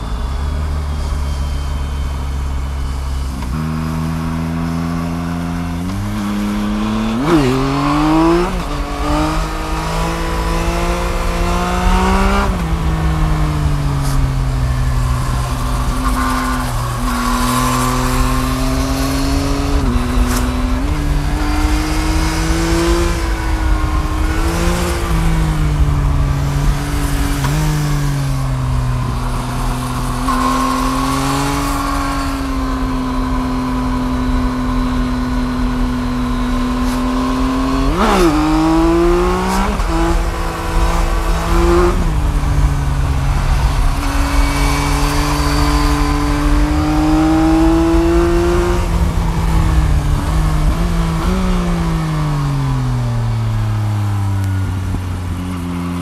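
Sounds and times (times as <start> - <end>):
motorcycle engine revving: 0.0 - 56.0
wind rumble on microphone: 0.0 - 56.0.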